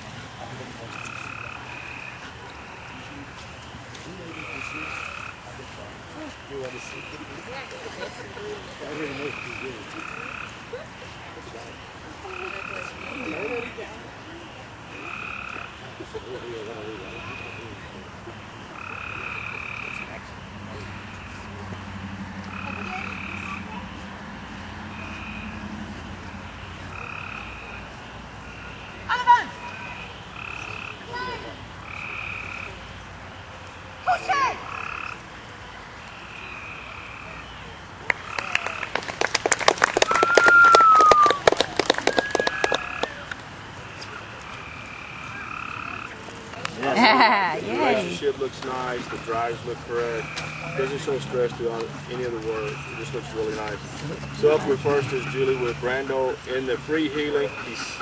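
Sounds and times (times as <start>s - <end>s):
frogs croaking: 0.0s - 40.2s, 41.4s - 47.0s, 47.7s - 58.0s.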